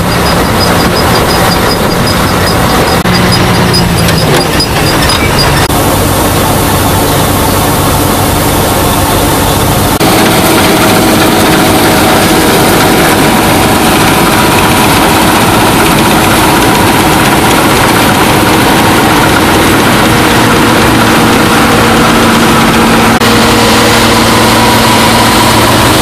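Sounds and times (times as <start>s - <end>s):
combine harvester droning: 0.0s - 26.0s.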